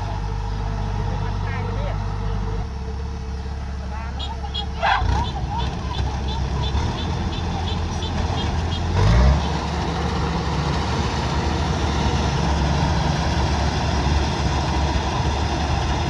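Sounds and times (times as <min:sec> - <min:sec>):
combine harvester diesel engine running: 0:00.0 - 0:16.0.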